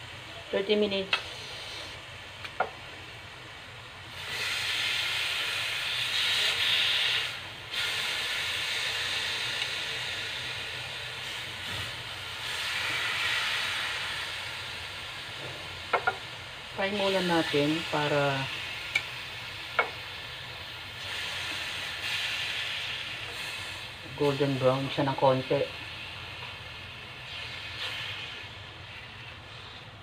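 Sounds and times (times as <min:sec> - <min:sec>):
meat sizzling in hot oil: 0:00.1 - 0:29.8.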